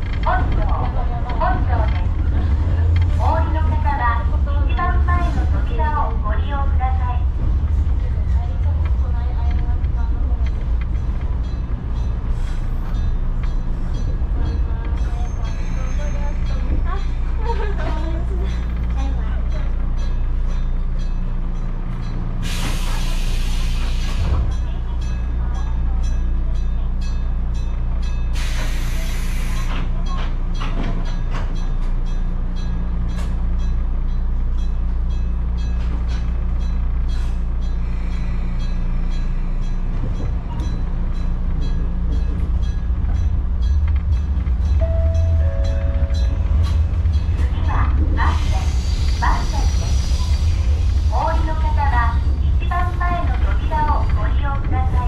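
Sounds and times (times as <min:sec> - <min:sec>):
railcar equipment humming: 0:00.0 - 0:55.0
railcar pulling away: 0:00.0 - 0:55.0.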